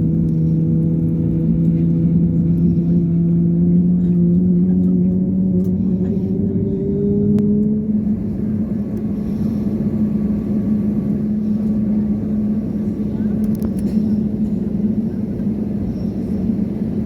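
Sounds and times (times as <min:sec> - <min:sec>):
aircraft engines droning in cabin: 0:00.0 - 0:17.0.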